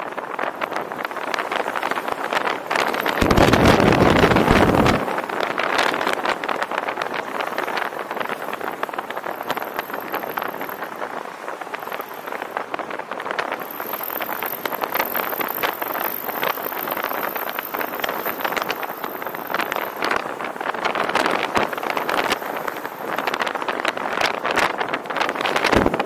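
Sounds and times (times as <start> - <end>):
car driving on road: 0.0 - 26.0
wind buffeting microphone: 0.0 - 26.0.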